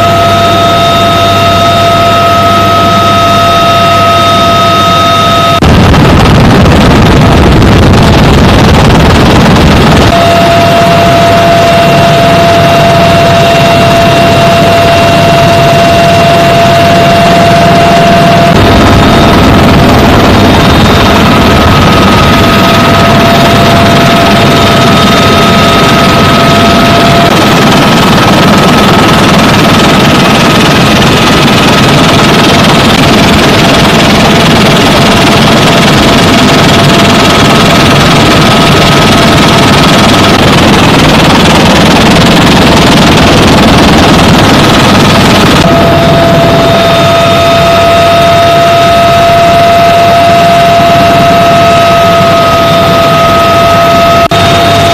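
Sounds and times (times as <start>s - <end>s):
helicopter rotor and engine noise: 0.0s - 54.9s
high turbine whine: 0.0s - 54.9s.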